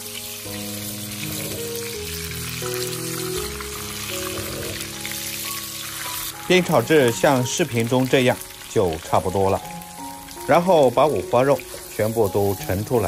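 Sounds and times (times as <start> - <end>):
meat sizzling in fat in a wok: 0.0 - 13.0
soft background music: 0.0 - 13.0.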